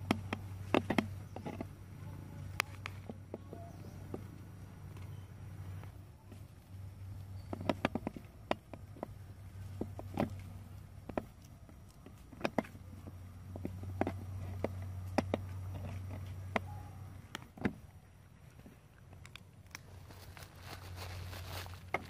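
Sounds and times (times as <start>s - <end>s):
steady low hum: 0.0s - 22.0s
small clicks and crackles: 2.4s - 17.7s, 18.4s - 22.0s.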